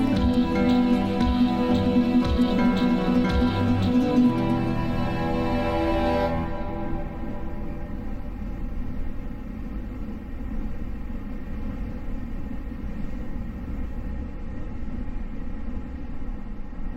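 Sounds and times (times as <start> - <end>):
train rumbling: 0.0 - 14.4.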